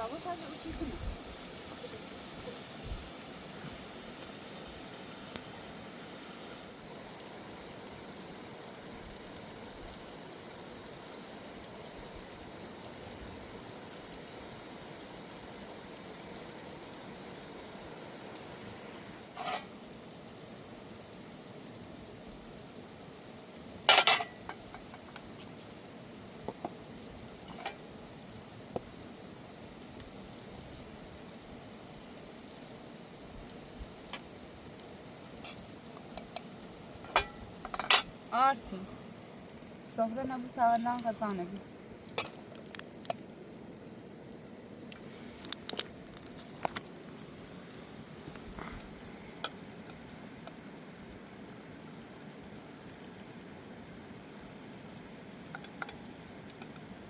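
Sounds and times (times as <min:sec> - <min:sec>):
faint steady hiss: 0:00.0 - 0:57.0
cricket chirping: 0:04.6 - 0:57.0.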